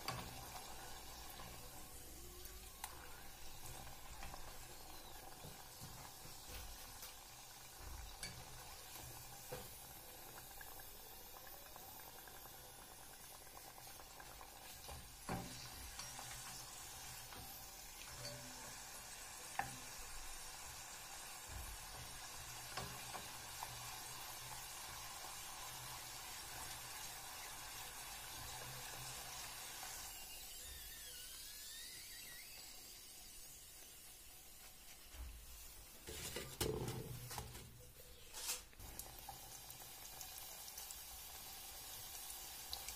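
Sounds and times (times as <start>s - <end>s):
dough frying in oil: 0.0s - 42.9s.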